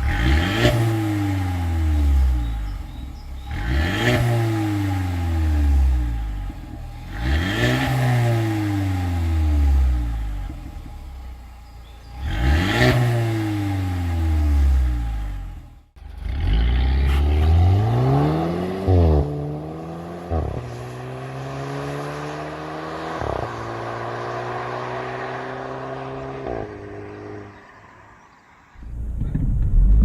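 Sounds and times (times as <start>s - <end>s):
car engine accelerating hard: 0.0s - 11.0s, 11.8s - 27.8s.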